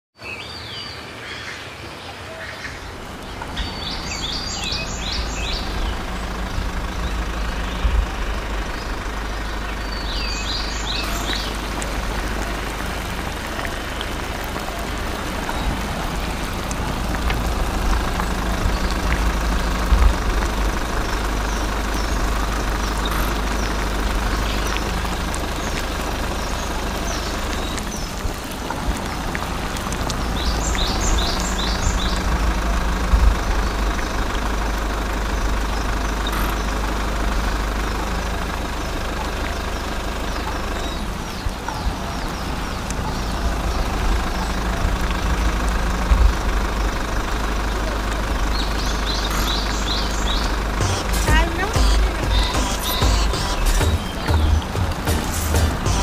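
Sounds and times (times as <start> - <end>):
birds chirping: 0.2 - 56.0
water splashing: 2.7 - 56.0.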